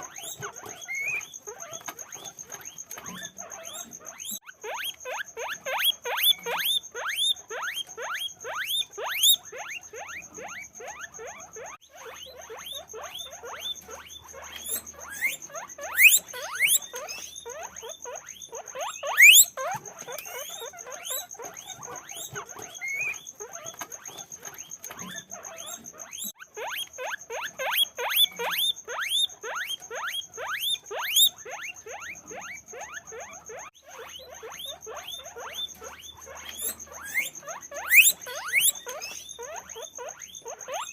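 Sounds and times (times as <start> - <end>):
guinea pigs wheeking: 0.0 - 40.9.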